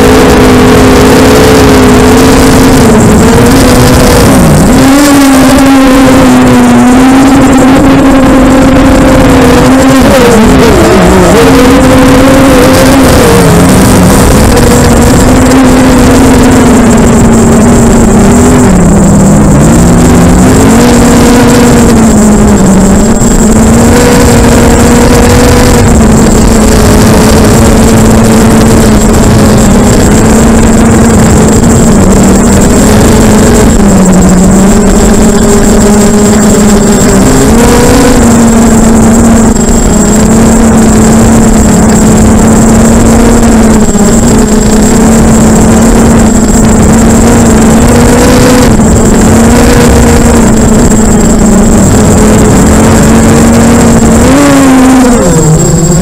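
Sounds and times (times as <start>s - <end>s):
quadcopter motors droning: 0.0s - 56.0s.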